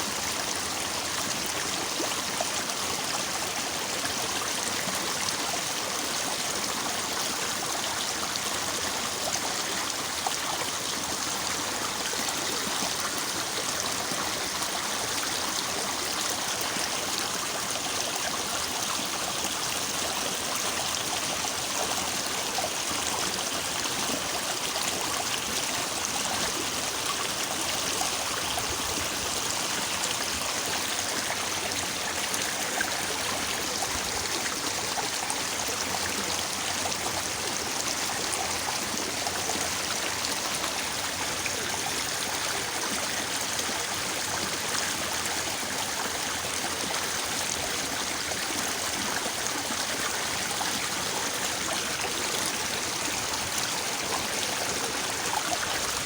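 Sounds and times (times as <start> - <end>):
stream babbling: 0.1 - 56.0.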